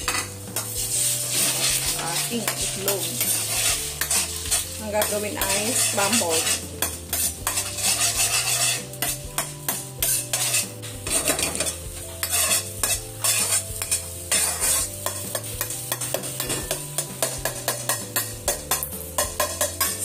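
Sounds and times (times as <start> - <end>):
eggs sizzling in oil: 0.0 - 20.0
metal spatula scraping a wok: 0.0 - 20.0.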